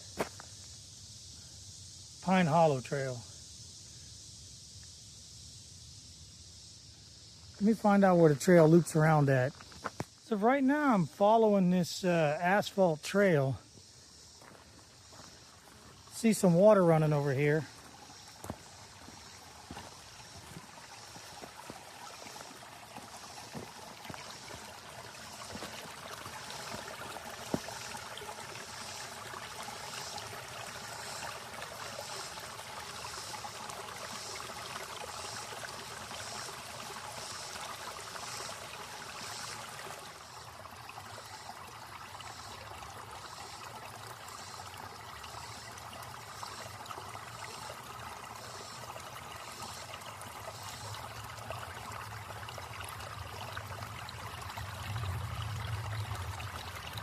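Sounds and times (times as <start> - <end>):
creek water running: 0.0 - 57.0.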